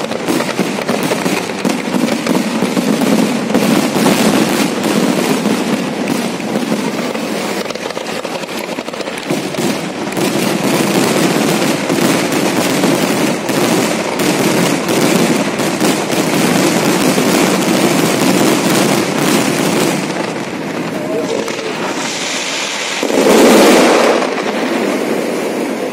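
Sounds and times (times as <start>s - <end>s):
fireworks crackling and banging: 0.0s - 25.9s.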